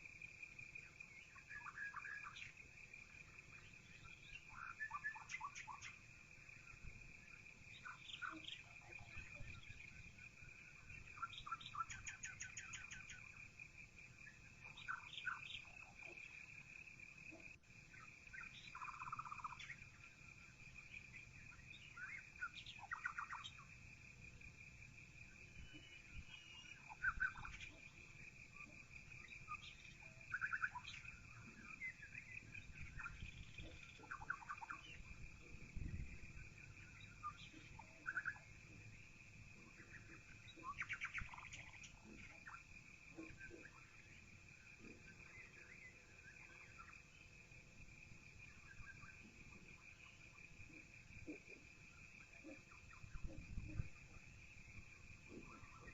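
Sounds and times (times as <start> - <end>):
faint birdsong chirps: 0.0 - 55.9.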